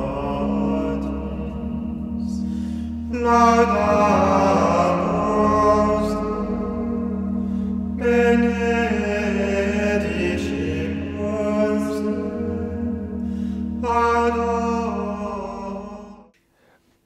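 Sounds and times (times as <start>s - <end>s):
low held drone note: 0.0s - 16.3s.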